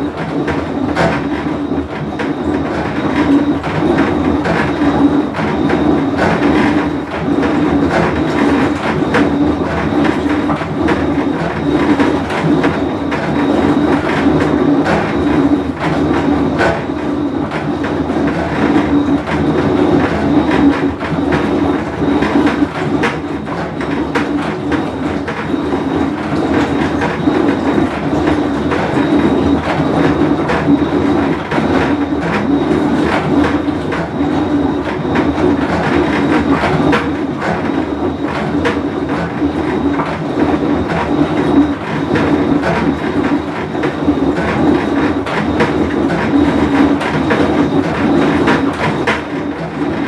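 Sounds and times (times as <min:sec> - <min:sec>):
washing machine rumbling: 0:00.0 - 0:50.0.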